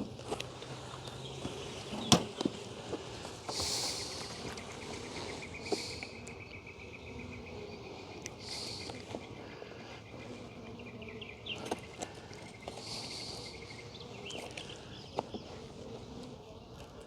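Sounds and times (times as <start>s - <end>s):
insects trilling: 1.3s - 16.8s.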